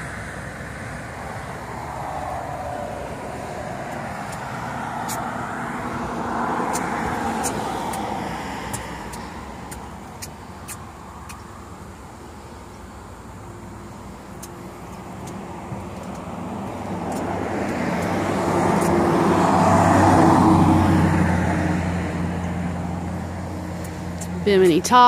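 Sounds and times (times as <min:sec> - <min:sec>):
vehicle passing on road: 0:00.0 - 0:25.0.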